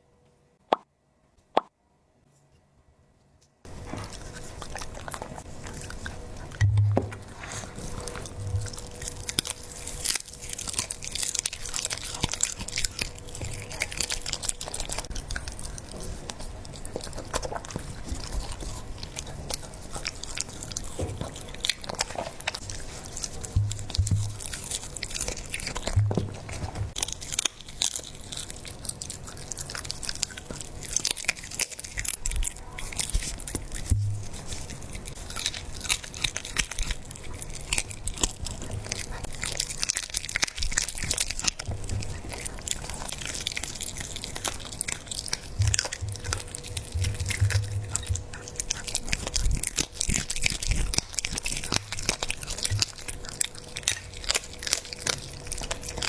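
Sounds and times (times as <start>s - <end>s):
dog chewing crunching bones: 3.7s - 56.0s.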